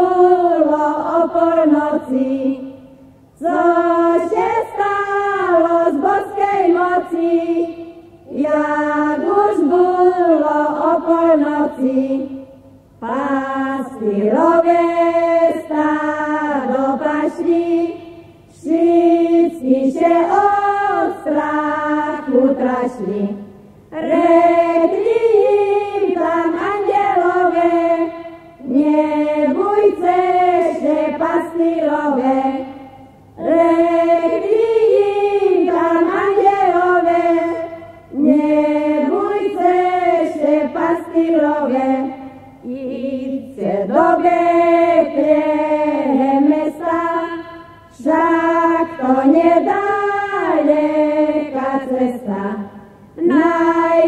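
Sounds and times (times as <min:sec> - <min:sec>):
group singing a carol: 0:00.0 - 0:54.0.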